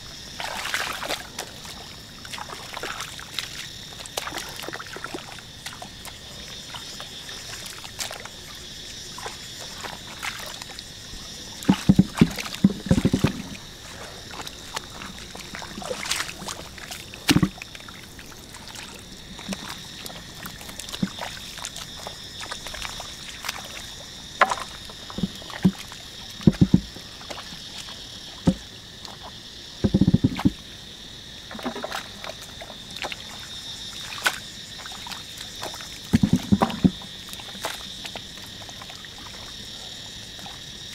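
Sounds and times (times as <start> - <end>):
hands splashing in muddy water: 0.0 - 30.6, 31.5 - 40.9.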